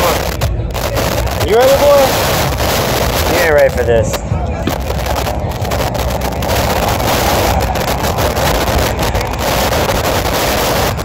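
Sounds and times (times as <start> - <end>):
road traffic passing: 0.0 - 11.0
wind rumble on microphone: 0.0 - 11.0.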